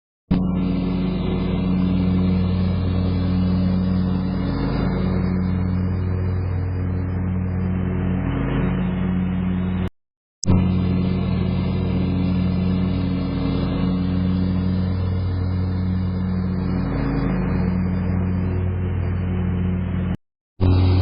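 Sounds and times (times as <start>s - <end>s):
engine running steadily: 0.3s - 21.0s.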